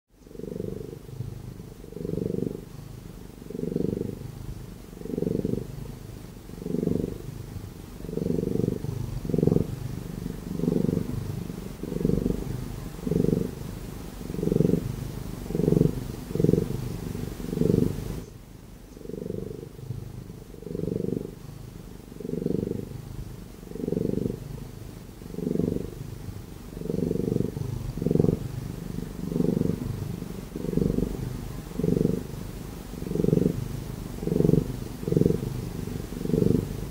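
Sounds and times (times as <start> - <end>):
cat purring: 0.2 - 36.9.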